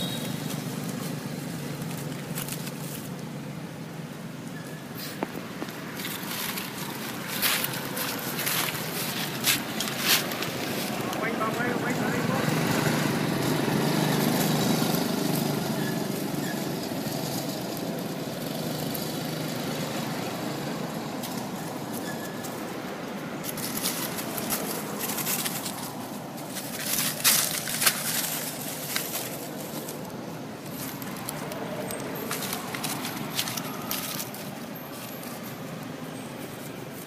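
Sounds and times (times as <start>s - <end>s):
dry leaves rustling and crackling: 0.0s - 4.1s, 5.0s - 37.0s
outdoor background hiss: 0.0s - 37.0s.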